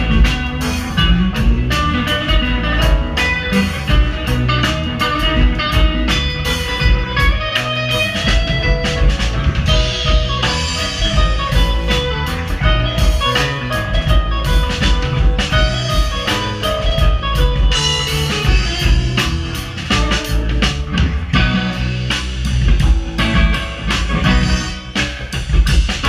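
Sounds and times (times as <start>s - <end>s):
drum kit drumming: 0.0s - 26.0s
electric guitars: 0.0s - 26.0s
keyboard: 0.0s - 26.0s.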